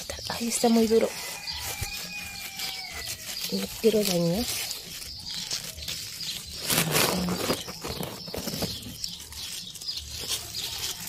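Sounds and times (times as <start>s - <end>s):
knife cutting through stem: 0.0s - 11.0s
leaves rustling: 0.0s - 11.0s.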